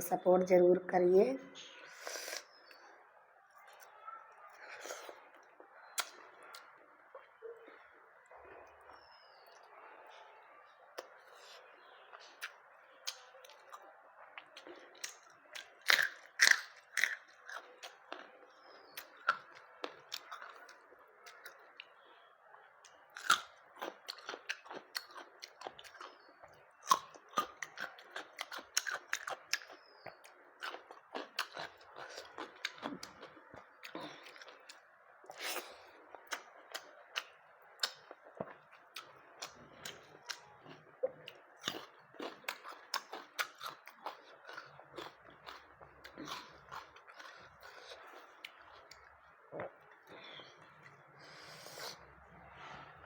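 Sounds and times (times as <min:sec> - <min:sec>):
person chewing and crunching food: 0:04.6 - 0:09.6, 0:11.0 - 0:22.0, 0:22.8 - 0:52.0.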